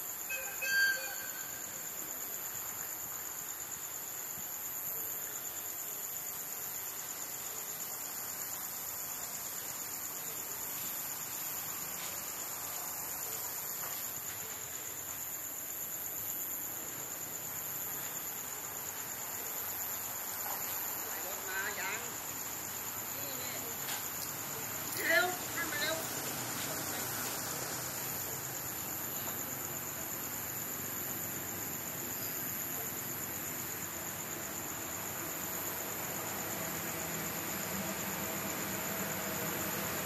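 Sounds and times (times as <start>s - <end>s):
insects trilling: 0.0s - 40.0s.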